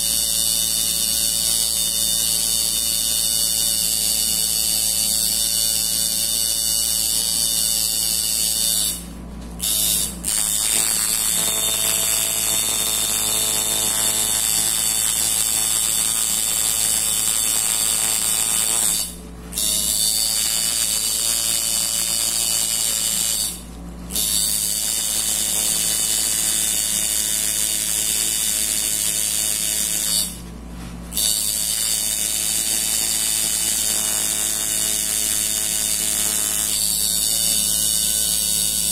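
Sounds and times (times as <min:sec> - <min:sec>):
tattoo machine buzzing: 0:00.0 - 0:30.4, 0:31.1 - 0:38.9.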